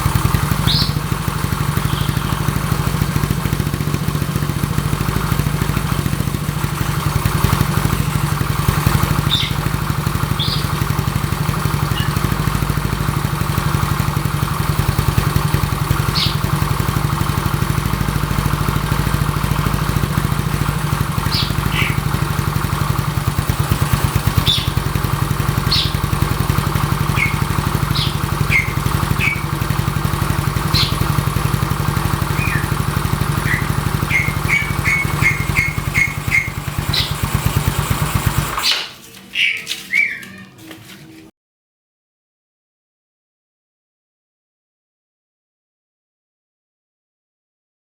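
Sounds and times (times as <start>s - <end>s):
scooter engine idling: 0.0s - 41.2s.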